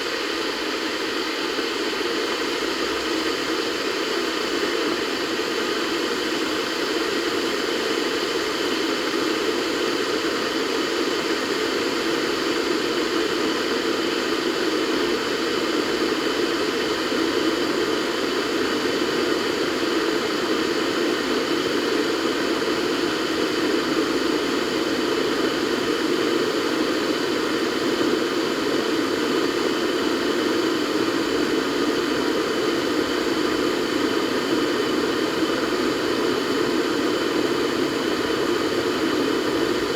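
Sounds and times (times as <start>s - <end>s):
kettle heating water: 0.0s - 39.9s.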